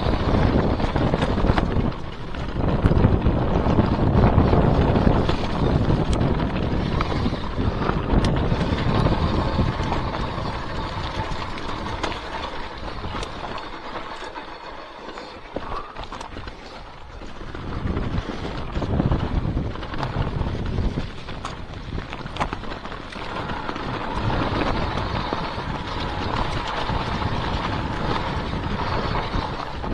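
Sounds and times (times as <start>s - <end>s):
bike rattling and clicking: 0.0s - 29.9s
wind buffeting microphone: 0.0s - 29.9s.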